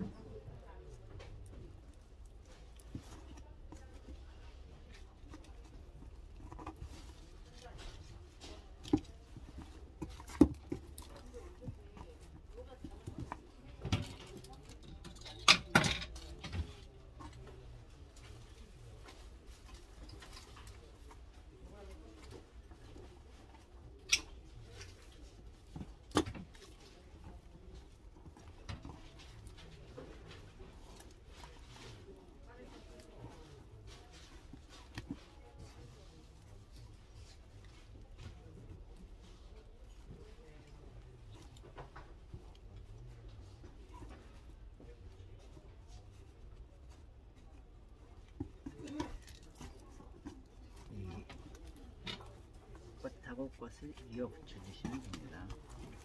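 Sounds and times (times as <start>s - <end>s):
flower stems rustling and knocking: 0.0s - 56.0s.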